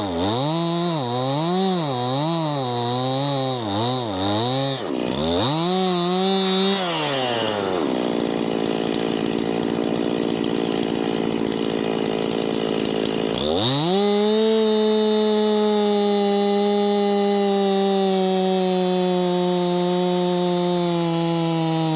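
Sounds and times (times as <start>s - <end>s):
chainsaw revving and idling: 0.0s - 21.9s.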